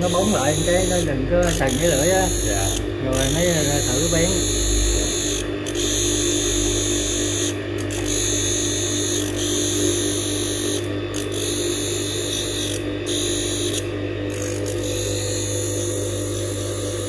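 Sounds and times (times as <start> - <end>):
grinding machine motor hum: 0.0 - 17.0.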